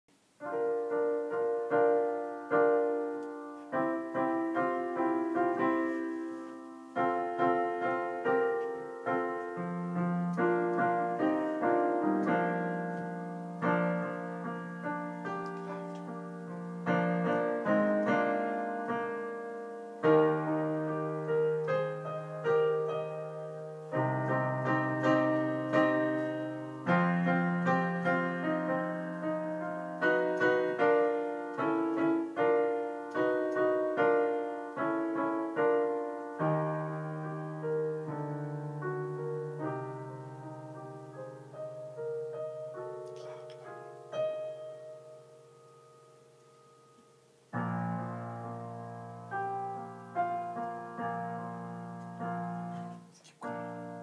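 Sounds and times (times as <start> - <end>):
solo piano: 0.1 - 54.0.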